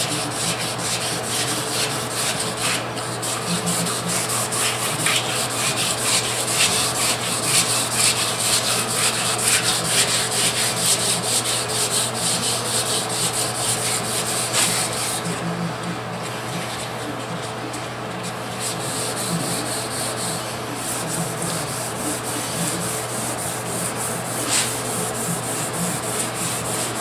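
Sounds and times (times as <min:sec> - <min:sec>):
hand wet-sanding paint: 0:00.0 - 0:27.0.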